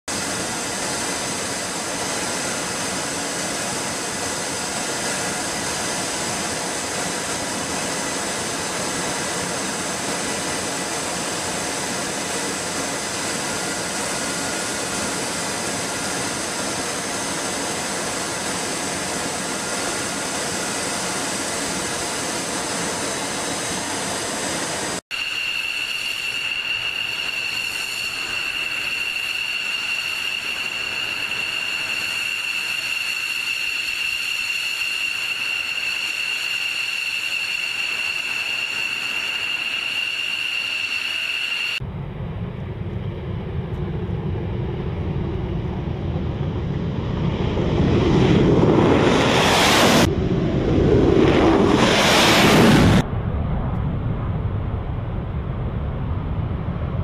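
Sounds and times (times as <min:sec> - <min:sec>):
jet engine rushing with high whines: 0:00.0 - 0:57.0
fighter jet engine idling: 0:00.1 - 0:57.0.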